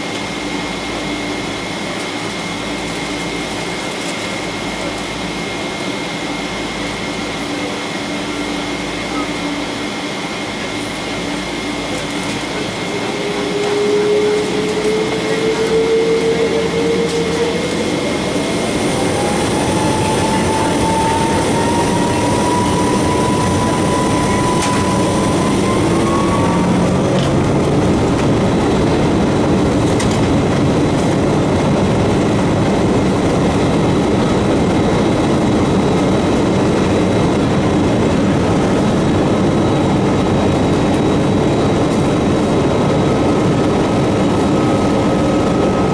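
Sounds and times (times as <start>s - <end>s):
jet engines spooling up: 0.0s - 45.9s.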